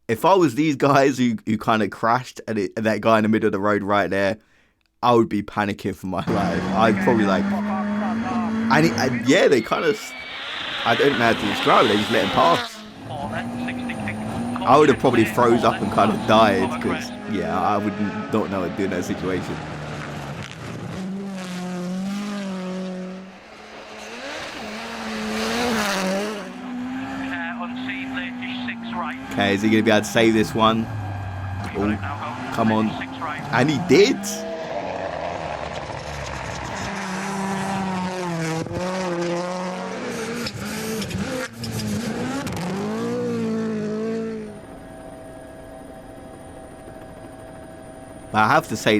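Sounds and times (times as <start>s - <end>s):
rally car engine at high revs: 6.2s - 47.5s.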